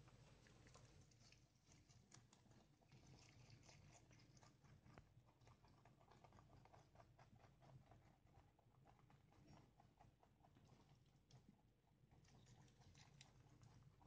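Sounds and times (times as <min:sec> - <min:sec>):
rabbits chewing leafy greens: 0:00.0 - 0:14.0.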